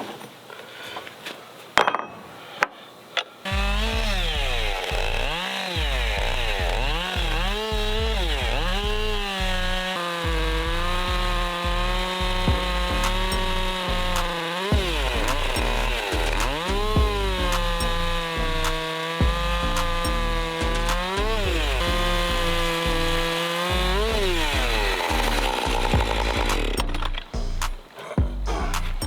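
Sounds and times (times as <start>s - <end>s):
chainsaw cutting through log: 3.5s - 29.0s.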